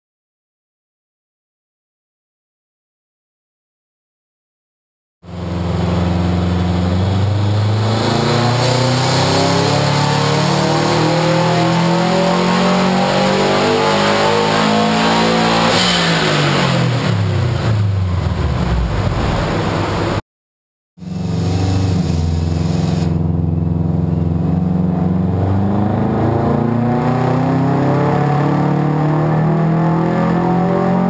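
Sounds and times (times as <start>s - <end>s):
car engine revving: 5.3s - 20.2s, 21.0s - 31.0s.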